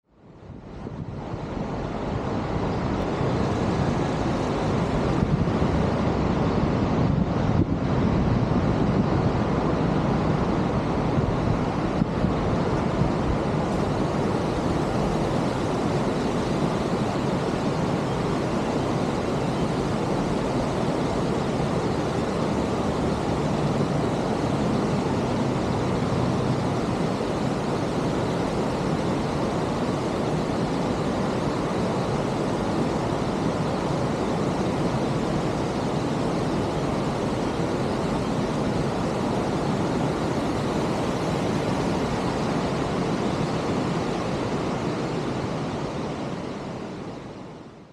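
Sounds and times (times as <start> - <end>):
waterfall rushing: 0.9 - 47.7.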